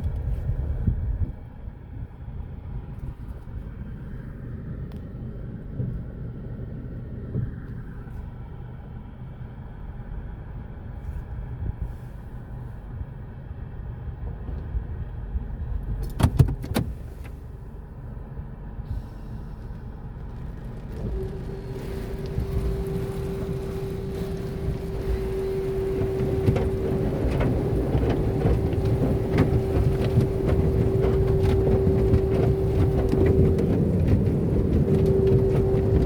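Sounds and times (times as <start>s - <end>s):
low rumble of car wash: 0.0s - 36.0s.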